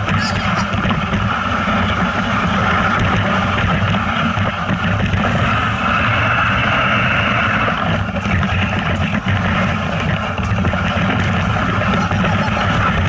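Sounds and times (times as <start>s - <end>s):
low rumble: 0.0s - 13.0s
wind buffeting microphone: 0.0s - 13.0s.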